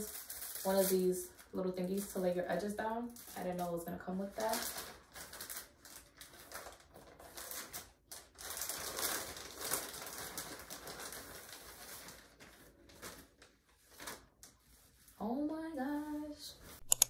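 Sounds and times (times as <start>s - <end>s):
plastic packaging crinkling: 0.0s - 14.7s.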